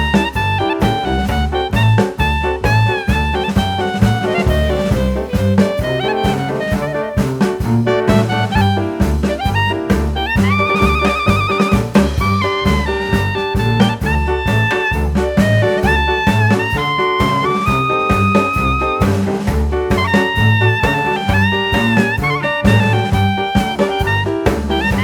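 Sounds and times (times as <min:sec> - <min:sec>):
swing jazz music: 0:00.0 - 0:25.0.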